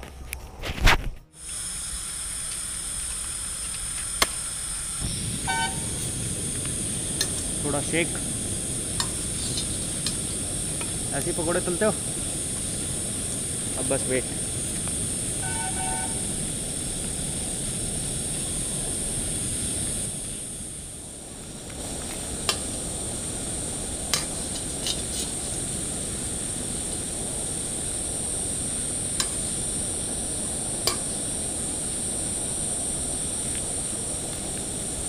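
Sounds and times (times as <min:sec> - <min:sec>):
steady rushing noise: 0:03.9 - 0:35.0.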